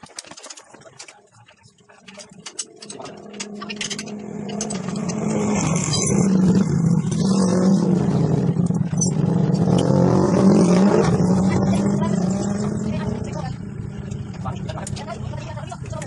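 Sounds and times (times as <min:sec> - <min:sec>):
vehicle engine running: 0:02.8 - 0:16.0.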